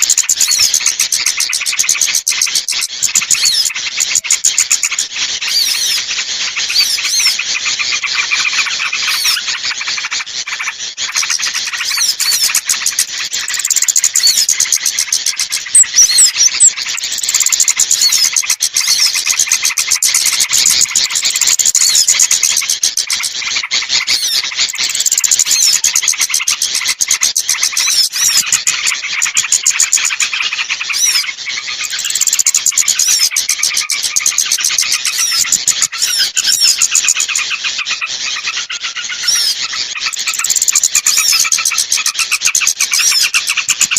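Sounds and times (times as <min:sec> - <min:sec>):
small birds twittering: 0:00.0 - 0:43.9.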